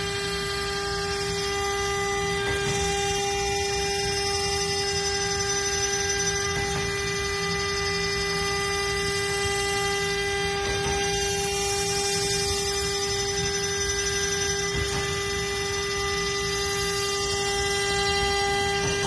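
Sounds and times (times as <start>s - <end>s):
spindle whine: 0.0s - 19.0s.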